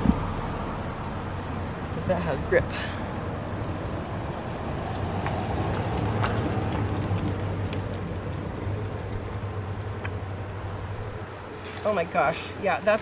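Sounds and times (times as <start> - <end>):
low vehicle-like hum: 0.0 - 13.0.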